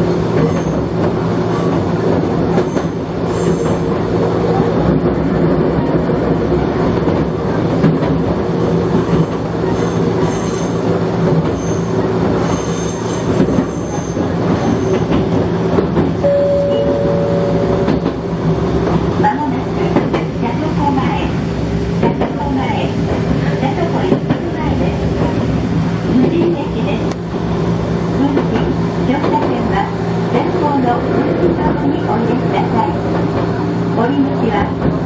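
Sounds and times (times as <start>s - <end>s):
electric train running on track: 0.0s - 35.0s.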